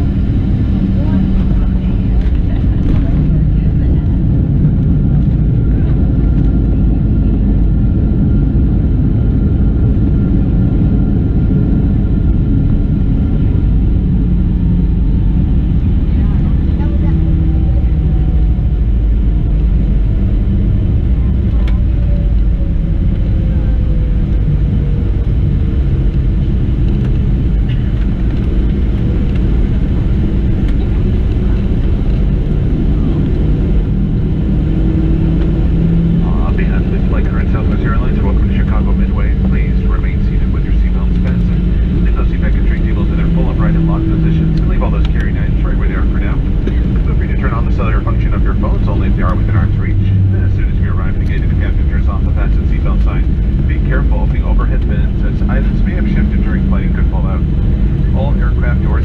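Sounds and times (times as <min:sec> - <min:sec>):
airliner cabin rumble: 0:00.0 - 0:59.0
faint steady whine: 0:09.0 - 0:59.0.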